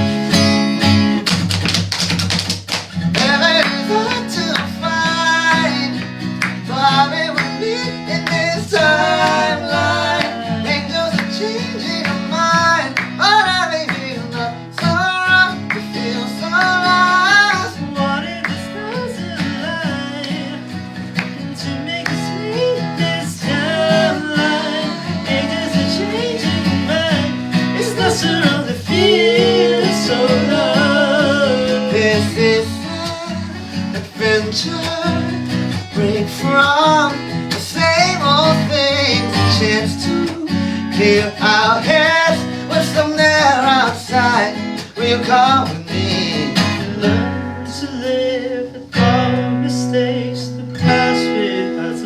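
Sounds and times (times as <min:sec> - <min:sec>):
guitar lead melody: 0:00.0 - 0:01.4, 0:03.0 - 0:52.0.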